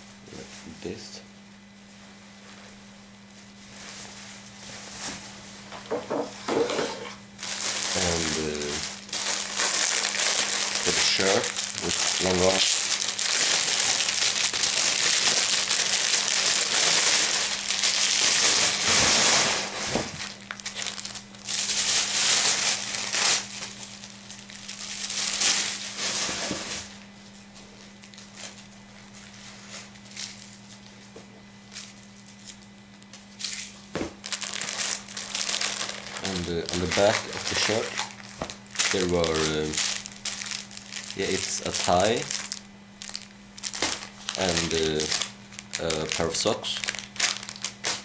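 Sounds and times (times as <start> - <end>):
faint steady hum: 0.0 - 48.0
plastic packaging crinkling: 7.4 - 27.0, 27.8 - 30.9, 31.7 - 48.0.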